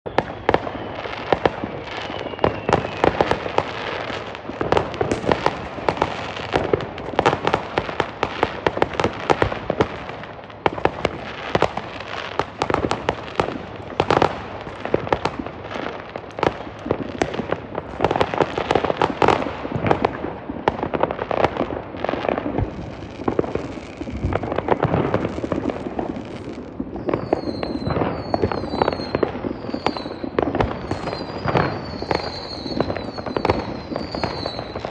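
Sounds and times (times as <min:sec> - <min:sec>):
whistling fireworks: 0:00.0 - 0:34.9
fireworks bangs and crackles: 0:00.1 - 0:34.9.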